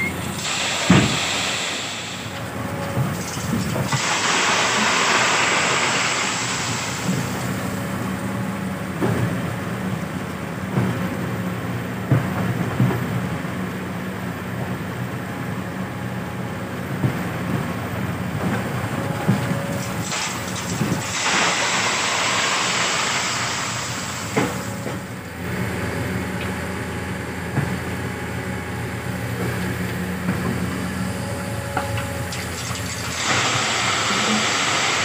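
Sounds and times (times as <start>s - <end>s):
excavator diesel engine: 0.0s - 35.0s.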